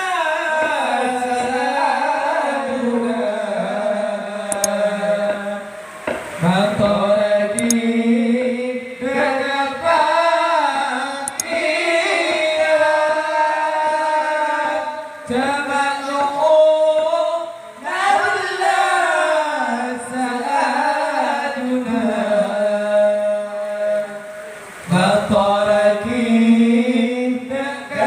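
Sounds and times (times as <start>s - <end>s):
person singing unaccompanied: 0.0s - 28.0s.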